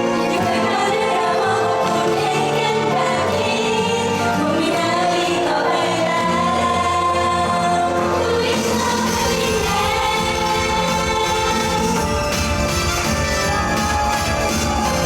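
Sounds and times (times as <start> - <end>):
backing track: 0.0 - 15.0
female group singing pop song: 0.0 - 15.0.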